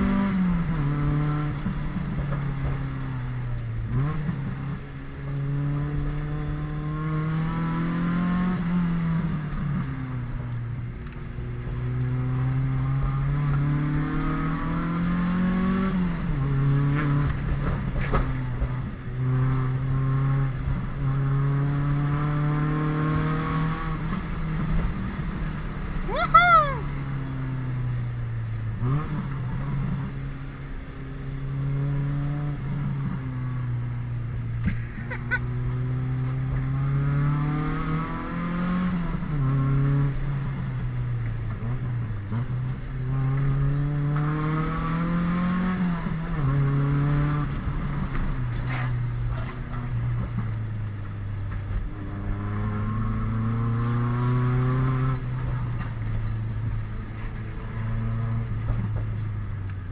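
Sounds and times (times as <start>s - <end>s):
car engine accelerating and shifting: 0.0s - 59.9s.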